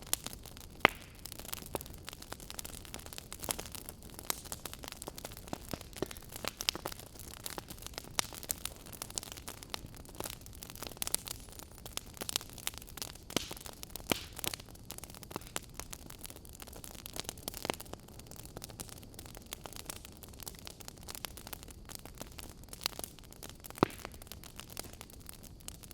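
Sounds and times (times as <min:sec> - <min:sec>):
wood fire crackling and popping: 0:00.0 - 0:25.9.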